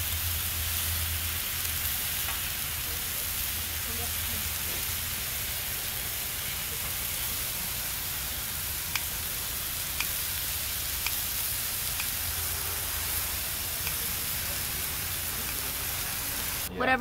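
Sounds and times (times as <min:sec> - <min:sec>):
meat sizzling on a grill pan: 0:00.0 - 0:16.7.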